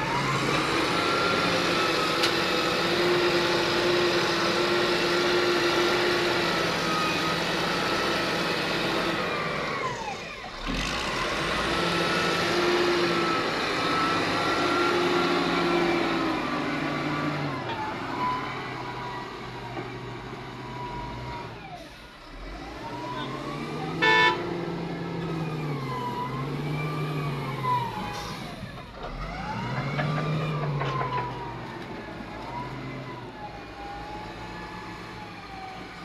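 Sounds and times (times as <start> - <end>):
diesel excavator engine under load: 0.0 - 36.0.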